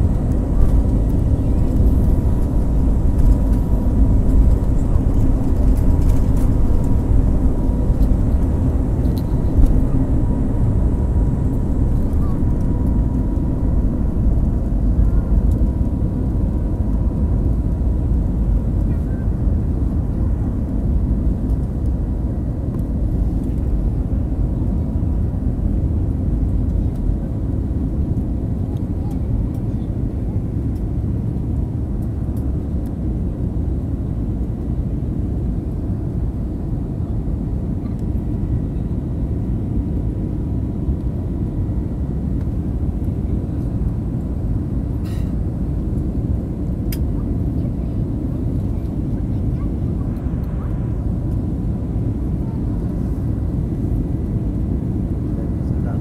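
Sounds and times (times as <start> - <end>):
engines and airflow rumble: 0.0 - 56.0.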